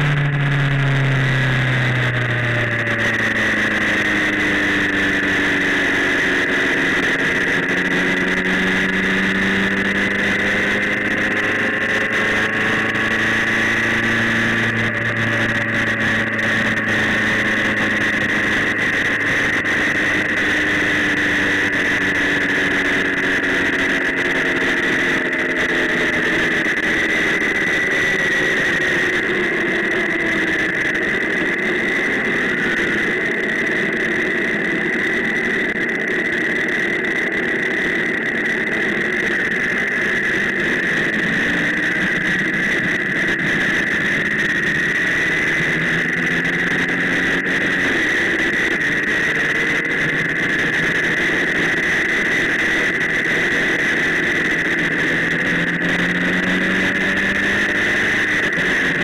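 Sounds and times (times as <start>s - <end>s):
constant high whine: 0.0s - 59.0s
road and wind noise: 0.0s - 59.0s
vehicle engine running: 0.0s - 59.0s.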